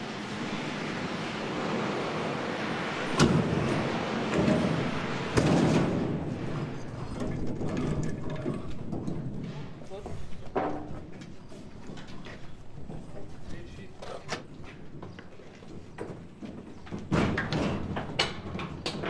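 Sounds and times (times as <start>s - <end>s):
dolly casters rumbling on concrete: 3.3s - 19.0s.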